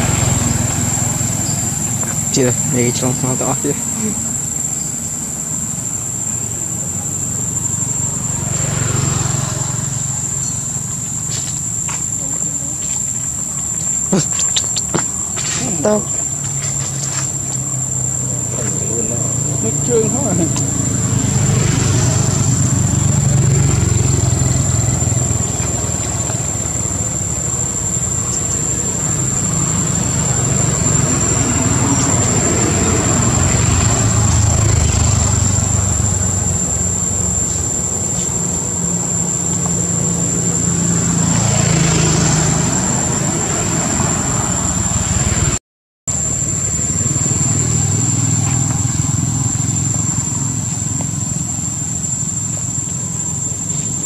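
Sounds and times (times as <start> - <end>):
thin high-pitched whine: 0.0 - 45.0.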